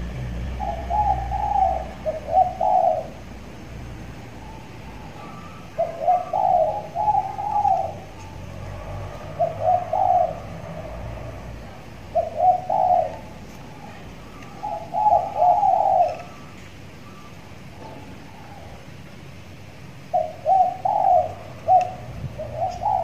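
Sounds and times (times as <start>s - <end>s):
dove cooing: 0.0s - 19.1s, 20.0s - 23.0s.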